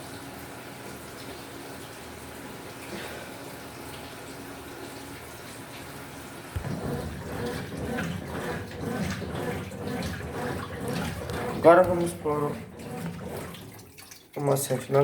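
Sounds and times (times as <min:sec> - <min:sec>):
water splashing in washing machine: 0:00.0 - 0:15.0.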